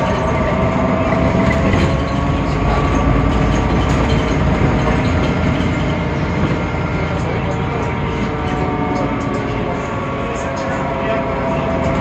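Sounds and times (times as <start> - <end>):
bus engine rumble: 0.0 - 12.0
gearbox whine: 0.0 - 12.0.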